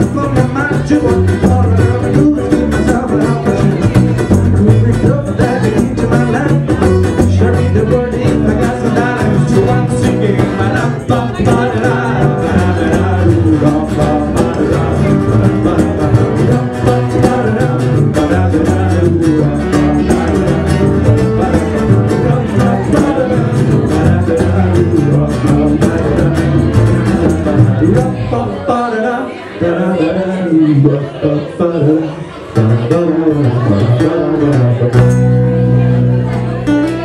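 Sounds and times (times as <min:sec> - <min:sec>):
electric bass line: 0:00.0 - 0:28.6, 0:32.6 - 0:37.0
acoustic guitars strummed: 0:00.0 - 0:37.0.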